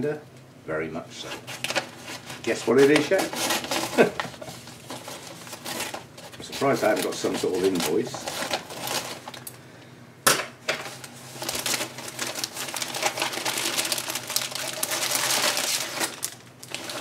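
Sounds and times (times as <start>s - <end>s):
paper and plastic crinkling: 1.2s - 9.6s, 10.8s - 17.0s.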